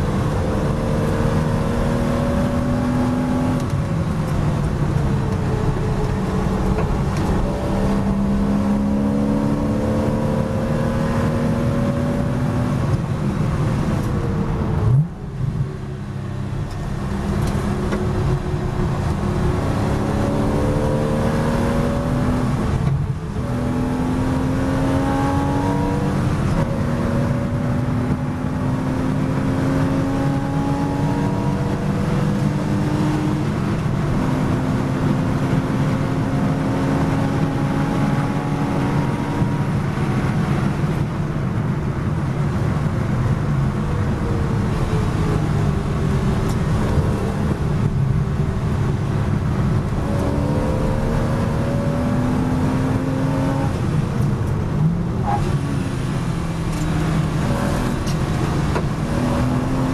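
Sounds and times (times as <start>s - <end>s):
race car engine revving: 0.0s - 15.3s, 16.1s - 41.2s, 44.0s - 59.9s.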